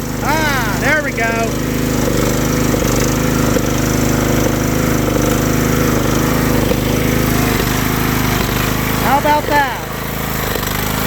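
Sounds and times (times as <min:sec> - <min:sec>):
lawnmower engine running: 0:00.0 - 0:11.0.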